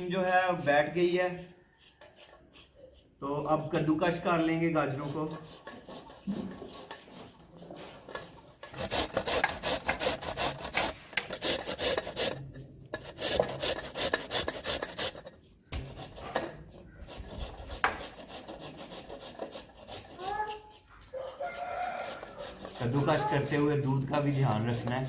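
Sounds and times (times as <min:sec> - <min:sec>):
carrots rasping on a grater: 0:00.0 - 0:04.2, 0:04.8 - 0:25.0.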